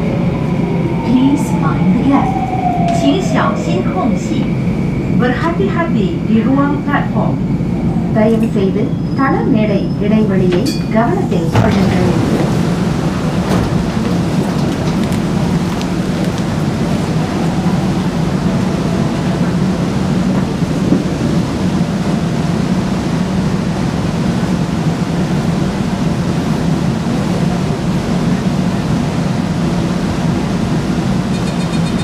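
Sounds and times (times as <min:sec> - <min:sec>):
low hum and rush of air: 0:00.0 - 0:32.0.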